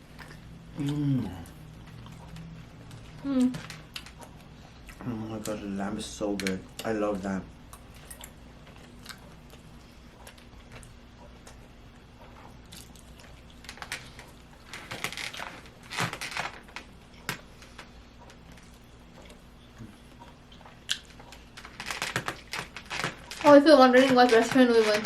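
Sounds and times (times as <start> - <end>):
people chewing and eating: 0.0 - 25.0.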